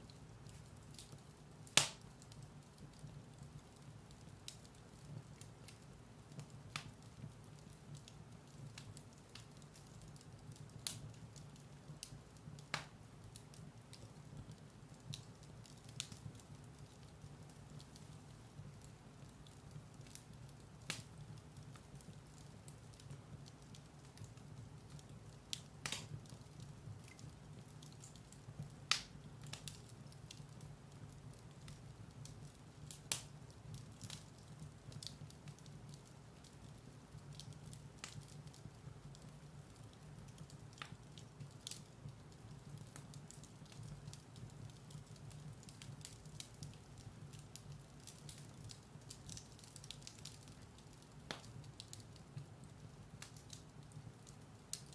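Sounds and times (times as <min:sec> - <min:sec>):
firewood crackling and popping: 0:00.0 - 0:54.9
low rumble of fire: 0:00.0 - 0:54.9.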